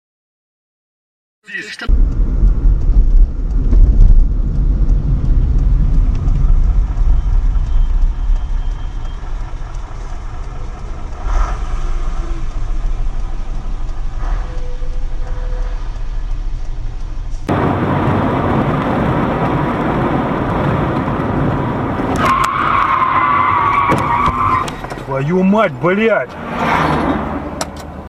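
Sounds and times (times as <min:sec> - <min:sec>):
bus engine rumble: 0:01.5 - 0:28.0.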